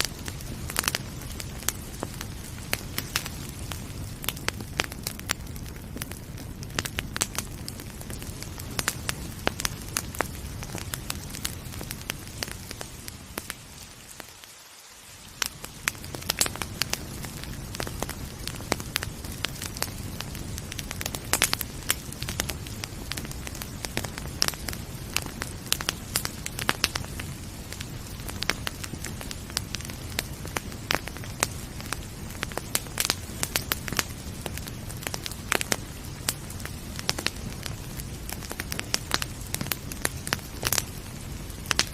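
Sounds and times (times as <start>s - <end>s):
rain hissing: 0.0s - 41.9s
wood fire crackling and popping: 0.0s - 41.9s.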